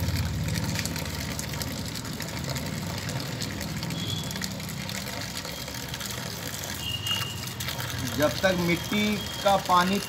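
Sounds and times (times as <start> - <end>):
water splashing from a pipe: 0.0 - 10.0.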